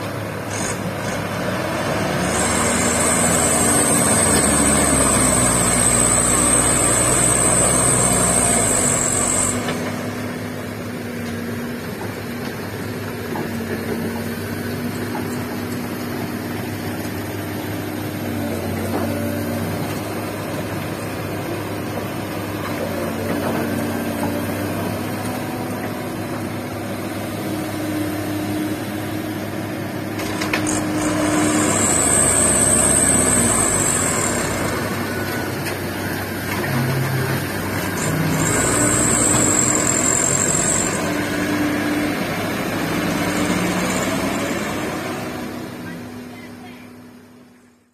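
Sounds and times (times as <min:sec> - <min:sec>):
diesel truck engine: 0:00.0 - 0:47.9
excavator engine running: 0:00.0 - 0:47.9.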